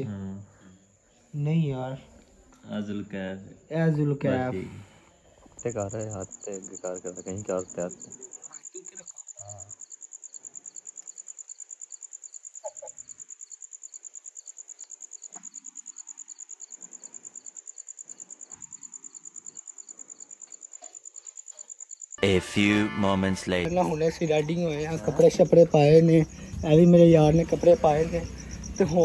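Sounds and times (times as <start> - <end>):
cricket chirping: 0.0 - 2.3, 2.9 - 22.3, 23.5 - 29.0.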